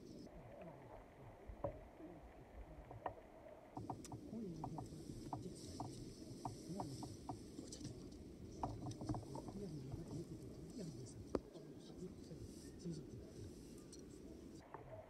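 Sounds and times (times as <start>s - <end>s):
muffled voices talking quietly: 0.0s - 15.0s.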